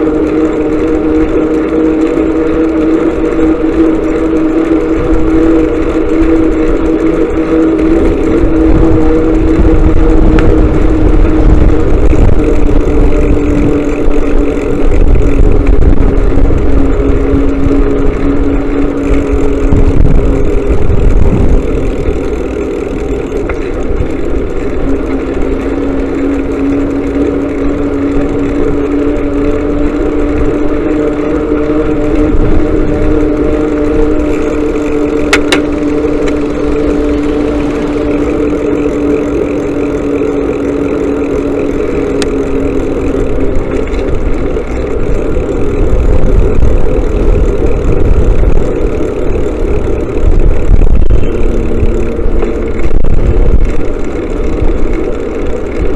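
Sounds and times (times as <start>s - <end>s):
motorcycle engine running: 0.0s - 55.9s
wind and road rumble: 0.0s - 55.9s.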